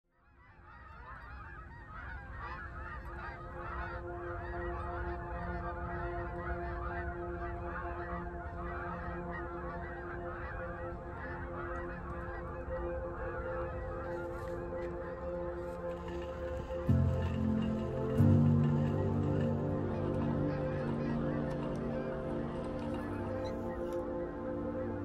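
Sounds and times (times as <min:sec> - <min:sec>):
geese honking in flight: 0:00.3 - 0:25.0.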